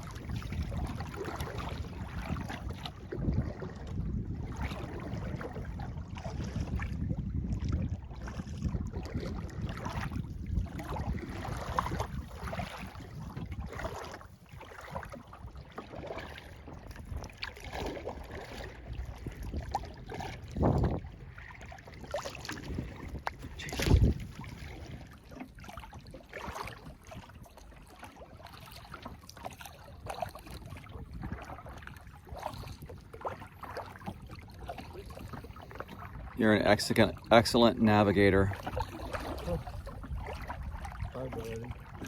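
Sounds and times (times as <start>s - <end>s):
paddle splashing and dripping water: 0.0s - 42.0s
wind rumble on microphone: 0.0s - 42.0s.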